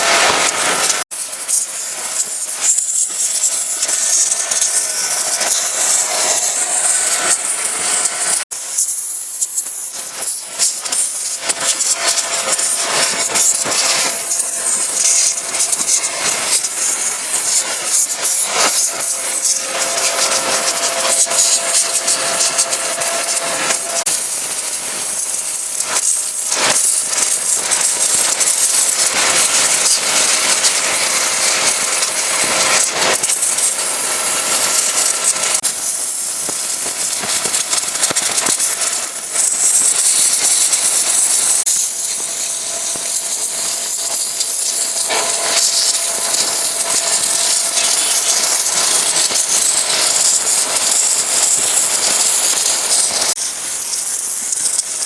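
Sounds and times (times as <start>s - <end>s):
pressure washer spraying water: 0.0s - 55.0s.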